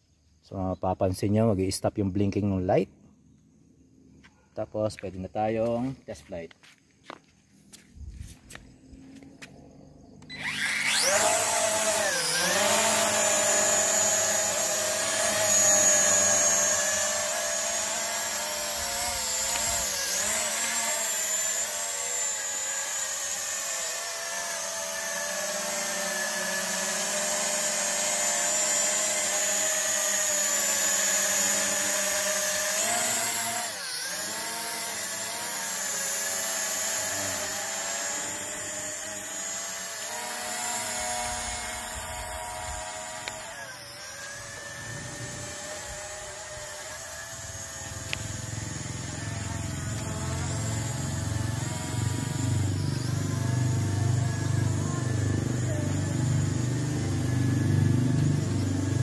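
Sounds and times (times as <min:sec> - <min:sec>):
drone propellers whining: 0:08.5 - 0:59.0.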